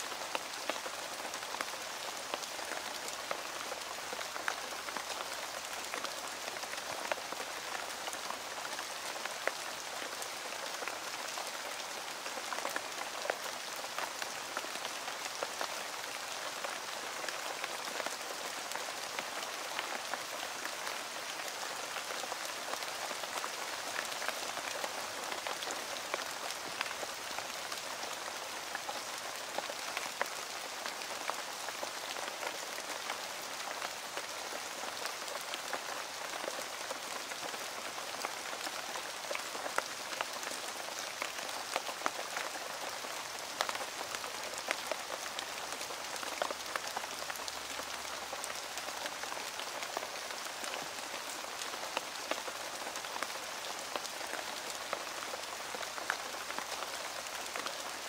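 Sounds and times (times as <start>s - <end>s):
heavy rain on foliage: 0.0s - 58.0s.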